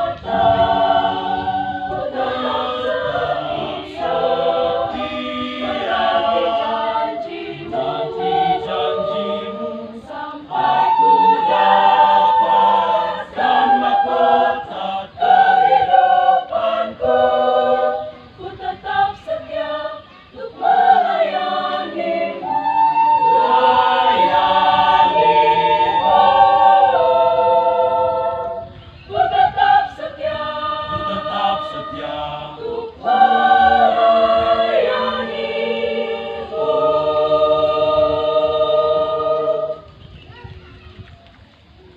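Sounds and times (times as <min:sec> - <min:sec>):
choir singing a hymn: 0:00.0 - 0:40.1.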